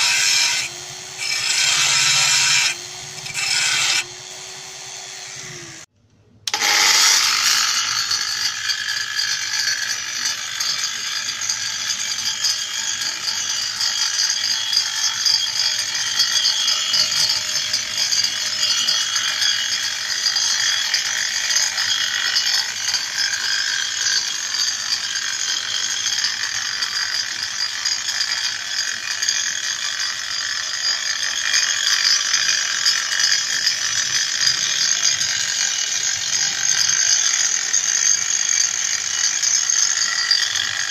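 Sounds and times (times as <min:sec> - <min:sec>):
circular saw running: 0:00.0 - 0:05.9, 0:06.5 - 0:40.9.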